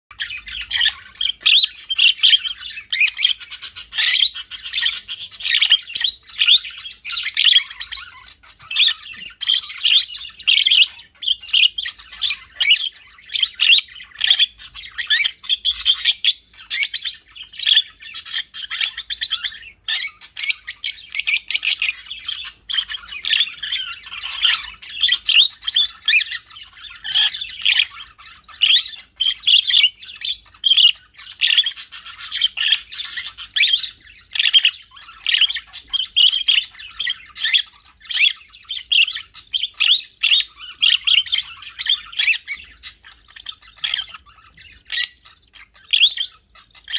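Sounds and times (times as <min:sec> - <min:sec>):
birds chirping and squeaking: 0:00.1 - 0:46.9.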